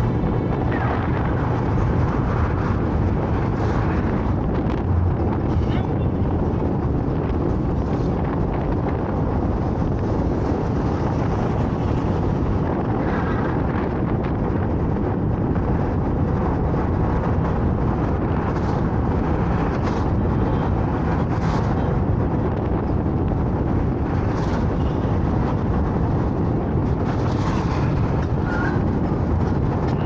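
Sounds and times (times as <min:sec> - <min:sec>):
tyre and engine rumble: 0:00.0 - 0:30.0
wind: 0:00.0 - 0:30.0.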